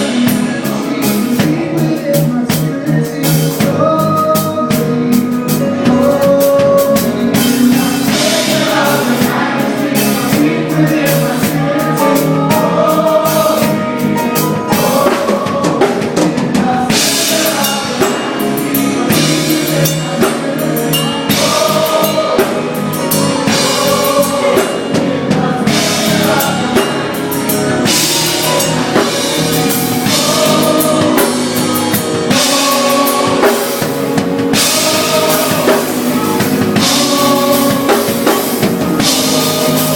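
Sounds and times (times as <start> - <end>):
drum kit beat: 0.0 - 39.9
live band playing: 0.0 - 39.9
person singing: 0.0 - 39.9.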